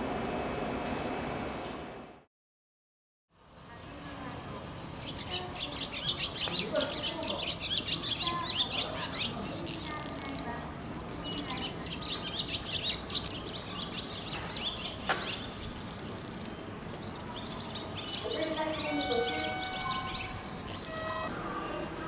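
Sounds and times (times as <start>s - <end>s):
small birds chirping: 3.5s - 21.3s.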